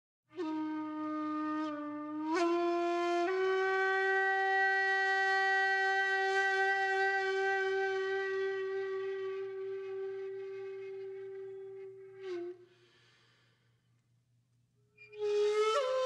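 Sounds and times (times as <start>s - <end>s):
held wind instrument note: 0.3s - 13.4s, 15.0s - 16.0s.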